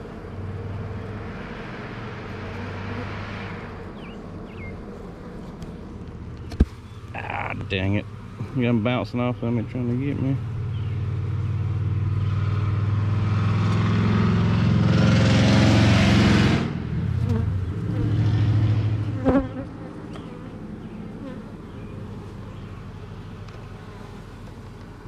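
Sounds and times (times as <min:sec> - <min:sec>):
honeybees buzzing: 0:00.0 - 0:13.1, 0:17.0 - 0:25.0.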